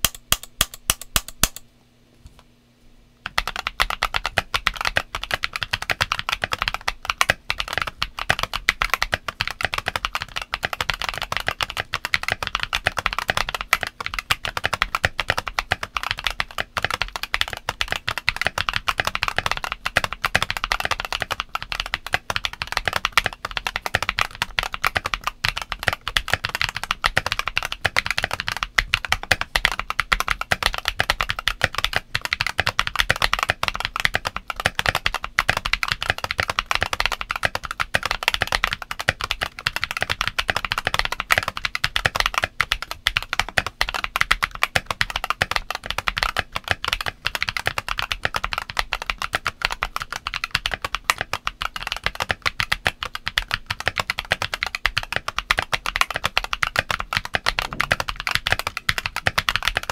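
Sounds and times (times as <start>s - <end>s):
keyboard typing: 0.0s - 1.6s, 3.2s - 59.9s
keyboard clacks: 3.2s - 59.9s.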